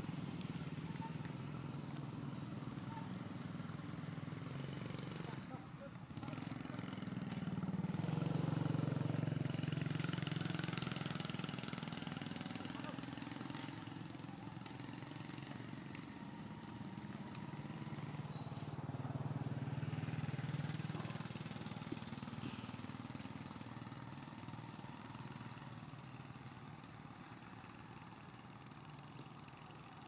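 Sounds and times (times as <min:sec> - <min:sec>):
distant vehicle engine running: 0:00.0 - 0:30.0.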